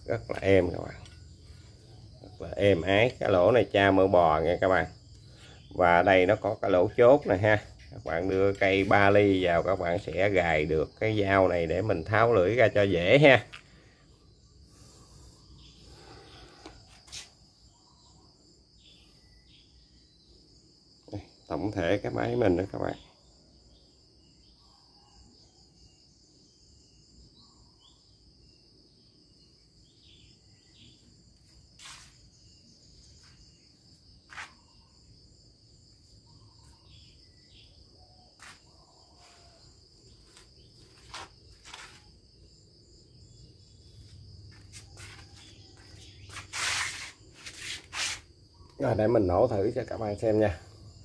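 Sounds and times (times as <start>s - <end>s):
insects chirring: 0.0s - 51.0s.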